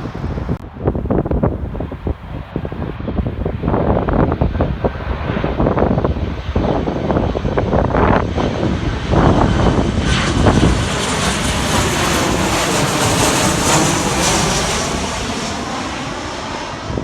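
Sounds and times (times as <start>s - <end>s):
airliner passing overhead: 0.0s - 17.0s
wind buffeting microphone: 0.0s - 17.0s.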